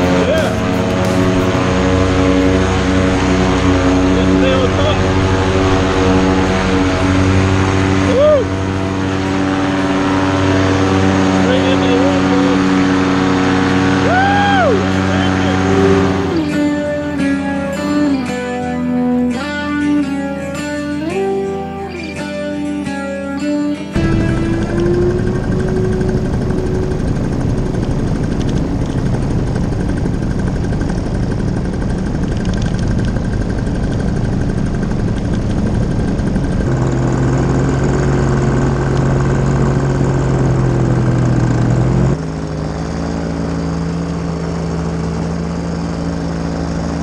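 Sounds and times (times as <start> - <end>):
small engine droning in flight: 0.0 - 47.0.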